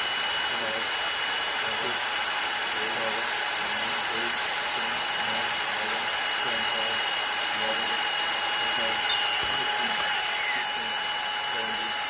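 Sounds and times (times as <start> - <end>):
drill bit cutting metal: 0.0 - 12.0
electric drill whine: 0.0 - 12.0.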